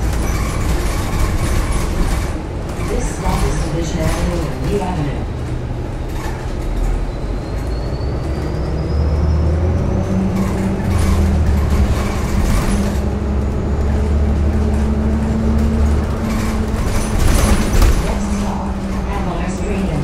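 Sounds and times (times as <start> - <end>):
bus engine low hum: 0.0 - 20.0.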